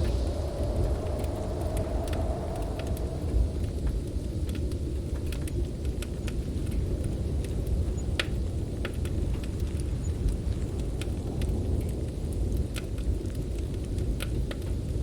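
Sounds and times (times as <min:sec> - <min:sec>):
storm wind howling: 0:00.0 - 0:15.0
wood fire crackling: 0:00.0 - 0:15.0.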